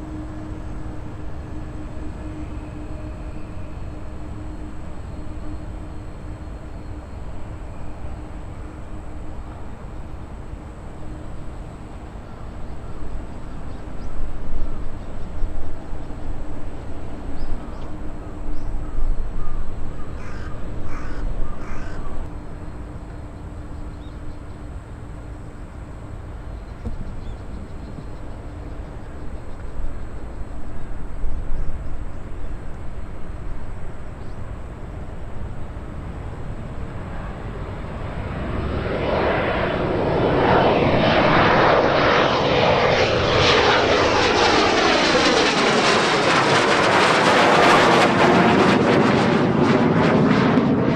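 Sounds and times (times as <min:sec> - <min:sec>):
low outdoor rumble: 0:00.0 - 0:50.9.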